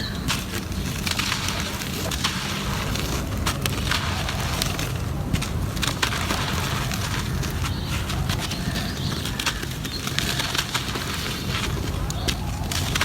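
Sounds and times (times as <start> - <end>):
cement crushing and crackling: 0.0 - 13.0.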